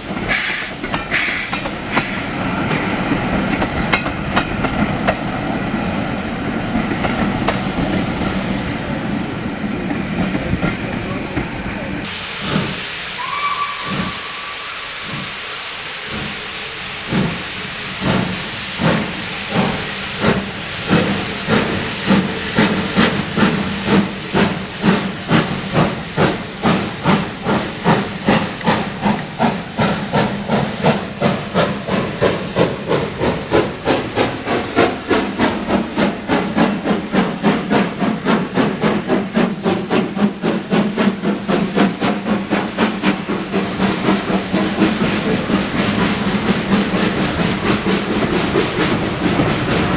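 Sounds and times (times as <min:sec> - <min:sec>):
hiss of steam: 0:00.0 - 0:49.9
steam locomotive exhaust chuffs: 0:00.0 - 0:49.9.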